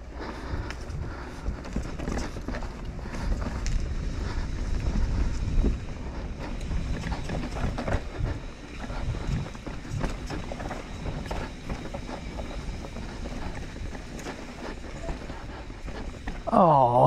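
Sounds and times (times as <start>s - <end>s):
wind buffeting microphone: 0.0s - 16.5s
bike clicks and rattles: 0.0s - 16.6s
bike tyres rumbling over dirt: 0.0s - 17.0s.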